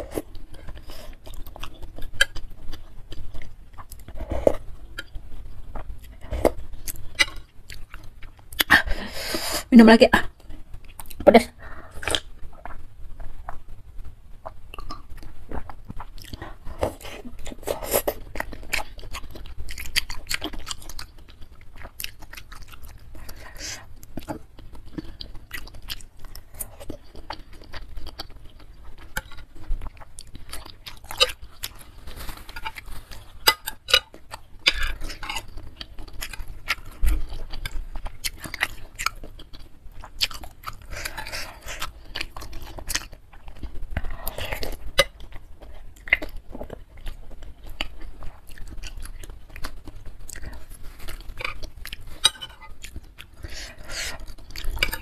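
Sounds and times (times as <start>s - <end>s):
wet chewing and mouth smacking: 0.0s - 9.1s, 10.4s - 11.3s, 11.9s - 55.0s.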